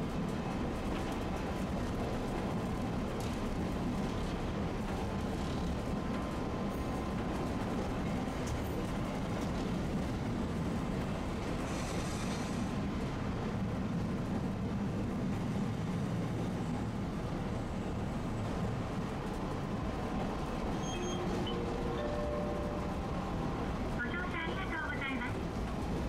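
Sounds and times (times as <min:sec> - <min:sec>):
streetcar wheels and motor rumble: 0:00.0 - 0:26.0.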